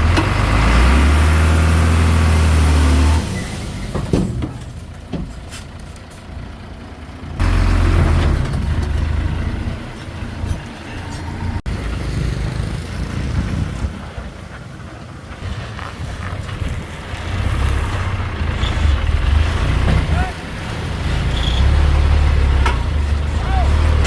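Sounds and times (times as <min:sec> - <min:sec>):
construction machinery diesel engine: 0:00.0 - 0:24.0.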